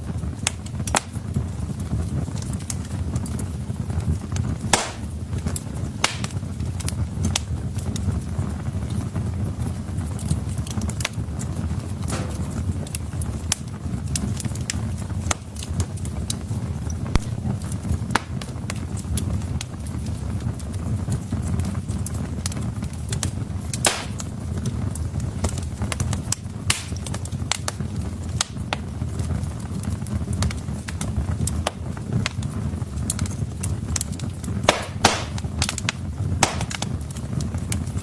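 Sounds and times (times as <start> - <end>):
burning logs crackling and popping: 0.0 - 38.0
low rumble of flames: 0.0 - 38.0.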